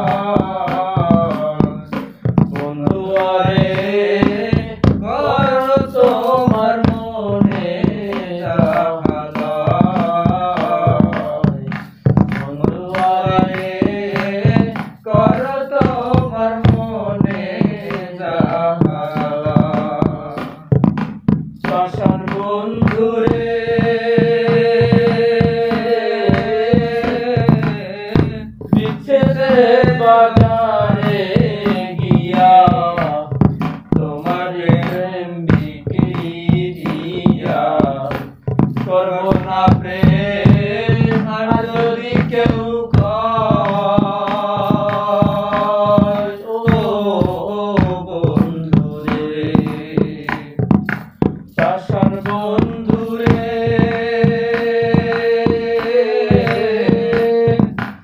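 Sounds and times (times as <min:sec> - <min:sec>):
men singing folk song: 0:00.0 - 0:20.8, 0:21.6 - 0:58.0
hand drum strokes: 0:00.0 - 0:58.0.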